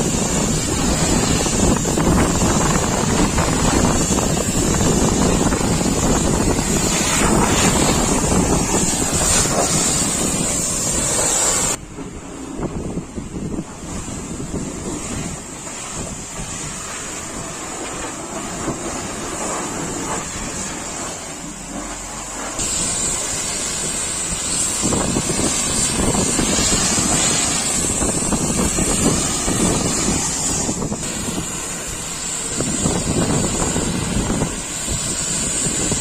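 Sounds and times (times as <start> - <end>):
high-pressure water spray hissing: 0.0 - 11.8, 12.4 - 36.0.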